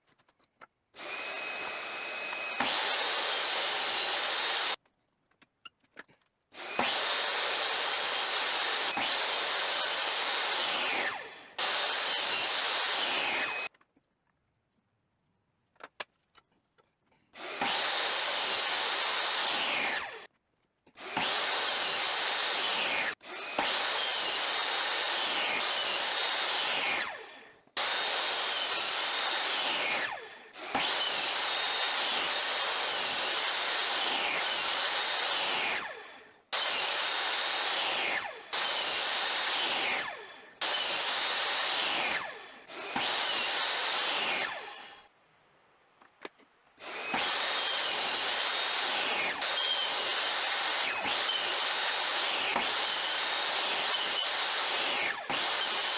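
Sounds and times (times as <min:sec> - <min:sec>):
power tool whining on wood: 0:01.0 - 0:04.8, 0:06.6 - 0:13.7, 0:17.4 - 0:20.3, 0:21.0 - 0:45.1, 0:46.8 - 0:55.9.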